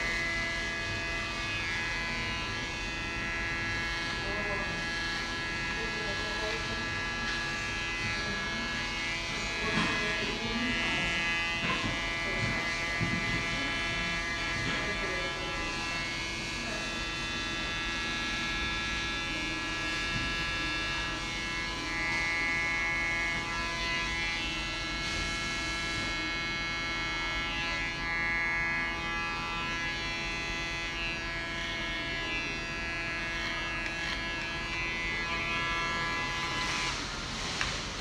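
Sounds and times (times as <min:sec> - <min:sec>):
electric hair clipper buzzing: 0:00.0 - 0:37.9.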